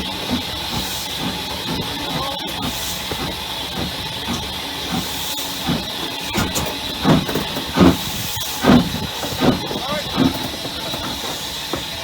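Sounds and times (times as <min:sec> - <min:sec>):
locomotive exhaust beats: 0:00.0 - 0:12.0
steam hissing: 0:00.0 - 0:12.0.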